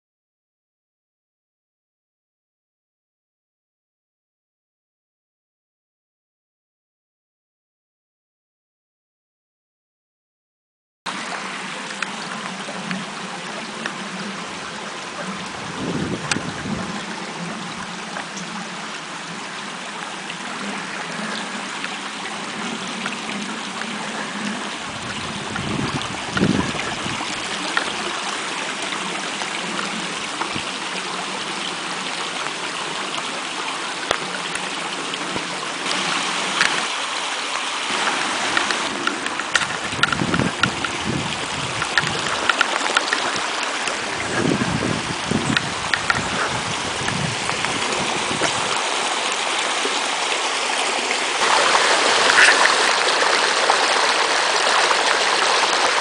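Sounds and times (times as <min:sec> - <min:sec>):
rainwater rushing down a lane: 0:11.1 - 0:56.0.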